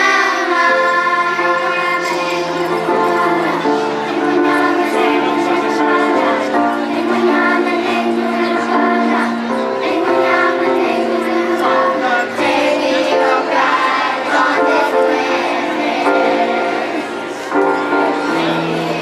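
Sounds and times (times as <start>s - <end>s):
children's choir singing: 0.0s - 19.0s
musical backing: 0.0s - 19.0s.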